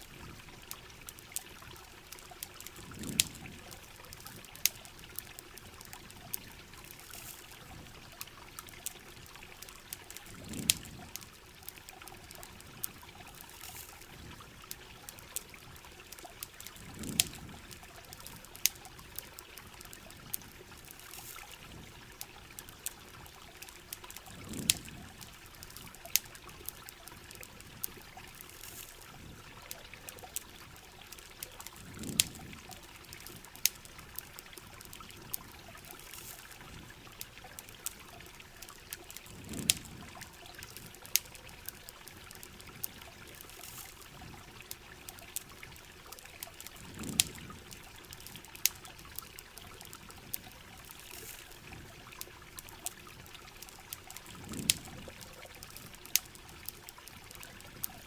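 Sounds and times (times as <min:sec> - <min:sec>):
campfire crackling: 0:00.0 - 0:58.0
rain and running water: 0:00.0 - 0:58.0.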